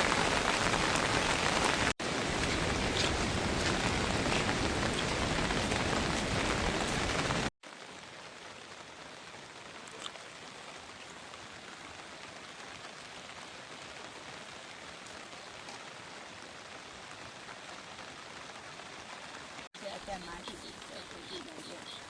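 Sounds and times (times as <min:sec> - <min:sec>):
heavy rain hiss: 0:00.0 - 0:22.0.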